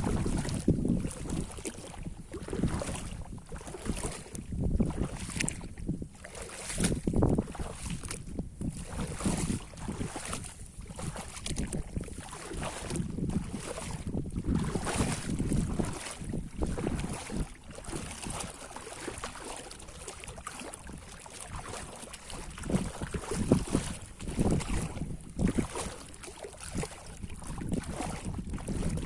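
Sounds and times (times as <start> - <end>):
wind buffeting microphone: 0.0 - 18.6, 20.5 - 29.0.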